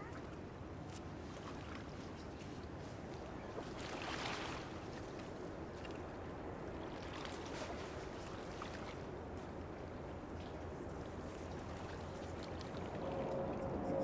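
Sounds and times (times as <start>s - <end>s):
low rumble of ship traffic: 0.0s - 14.0s
water lapping at shore: 0.0s - 14.0s.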